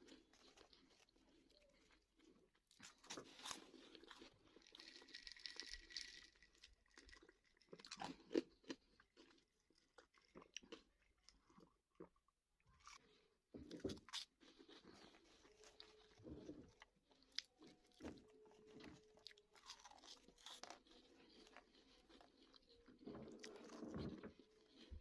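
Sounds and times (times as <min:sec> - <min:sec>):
person crunching snacks: 0:00.0 - 0:12.2, 0:12.8 - 0:24.9.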